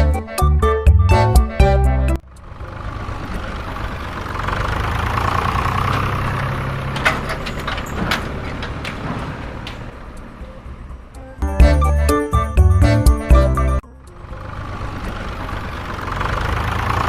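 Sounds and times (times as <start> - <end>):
tractor motor running: 1.1 - 17.0.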